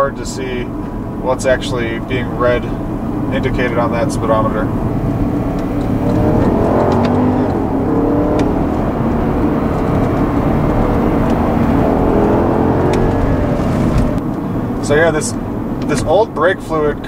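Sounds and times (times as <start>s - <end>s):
car engine accelerating: 0.0s - 17.0s
low road rumble: 0.0s - 17.0s.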